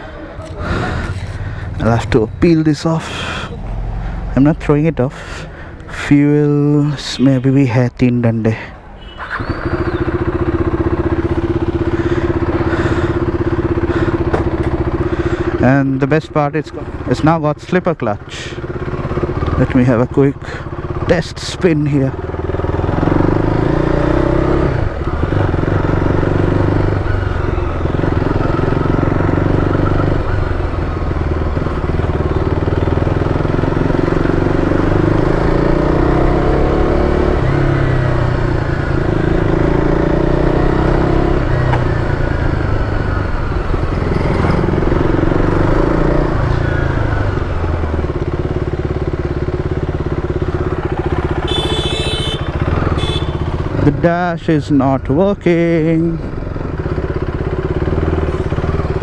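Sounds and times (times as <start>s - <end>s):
motorcycle engine revving: 9.0s - 59.0s.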